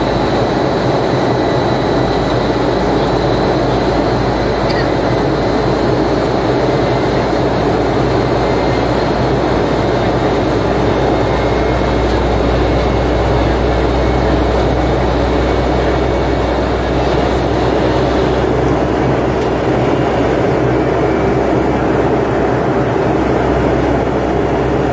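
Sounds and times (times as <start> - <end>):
airplane cabin engine rush: 0.0 - 24.9.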